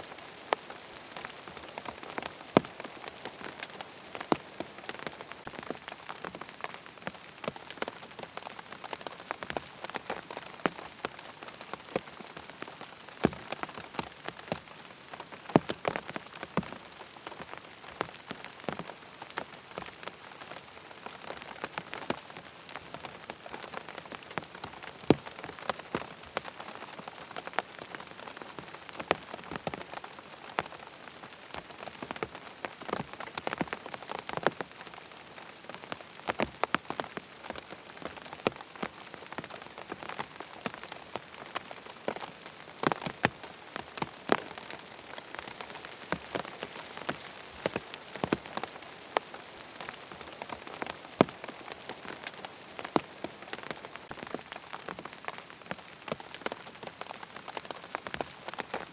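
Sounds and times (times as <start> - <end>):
rain on a hard surface: 0.0 - 58.9.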